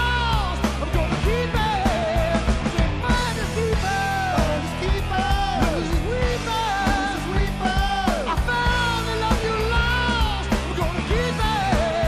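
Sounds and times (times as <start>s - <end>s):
rock band playing live: 0.0s - 12.0s
steady drum beat: 0.0s - 12.0s.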